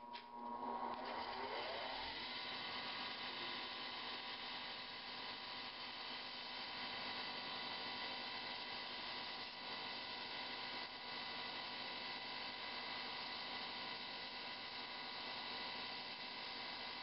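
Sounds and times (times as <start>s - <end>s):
wood lathe humming: 0.1s - 17.0s.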